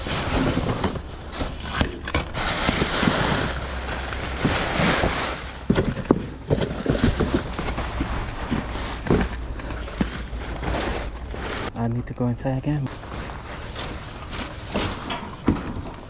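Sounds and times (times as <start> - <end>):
cardboard and plastic rustling: 0.0 - 11.8, 12.9 - 16.0.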